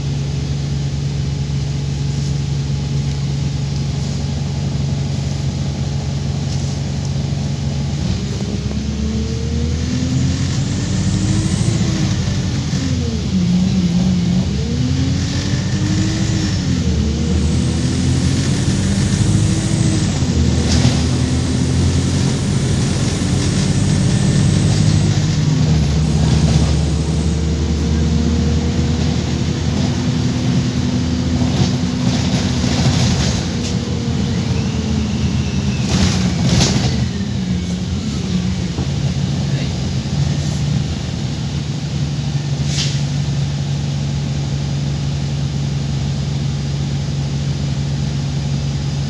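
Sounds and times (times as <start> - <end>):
bus diesel engine accelerating: 0.0 - 49.0.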